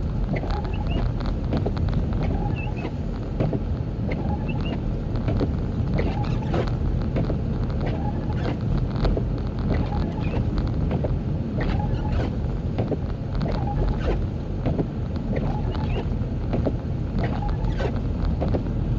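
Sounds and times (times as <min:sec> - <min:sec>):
small clicks and ticks: 0:00.0 - 0:18.7
road and tyre rumble: 0:00.0 - 0:18.9.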